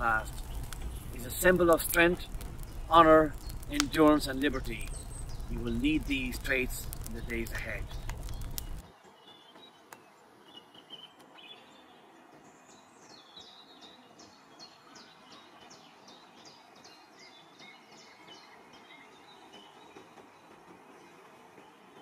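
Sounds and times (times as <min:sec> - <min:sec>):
outdoor hiss: 0:00.0 - 0:22.0.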